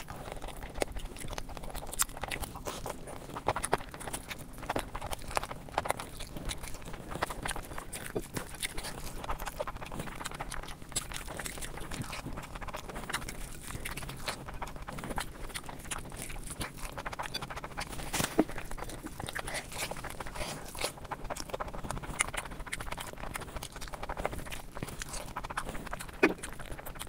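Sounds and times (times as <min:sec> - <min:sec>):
chewing and mouth smacking: 0:00.0 - 0:27.0.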